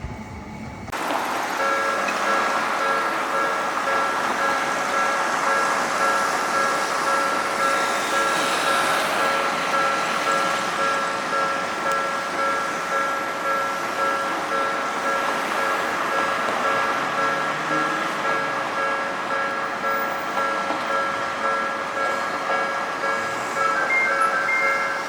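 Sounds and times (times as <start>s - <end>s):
railroad crossing alarm: 0.0s - 25.0s
street noise: 0.0s - 25.0s.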